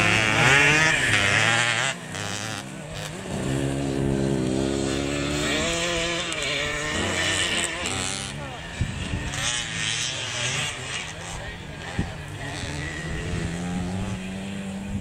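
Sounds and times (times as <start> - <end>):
motocross motorcycle engine revving: 0.0 - 15.0.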